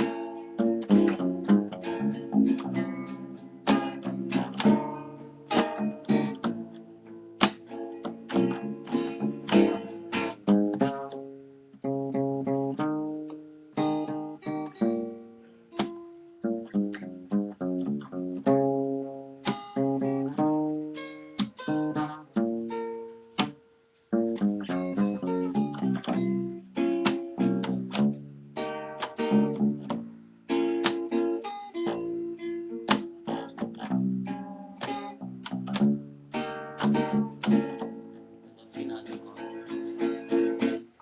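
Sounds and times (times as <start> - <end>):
nylon-string guitar samba: 0.0 - 41.0.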